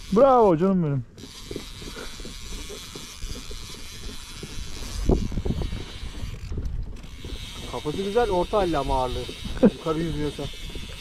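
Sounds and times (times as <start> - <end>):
wind rumbling on microphone: 1.2 - 11.0.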